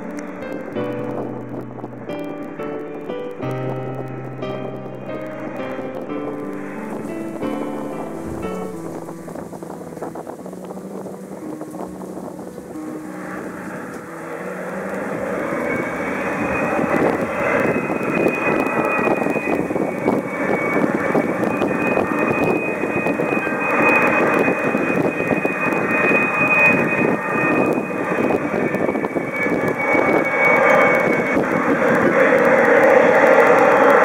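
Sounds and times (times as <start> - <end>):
jet engines whining and rumbling: 0.0 - 34.0.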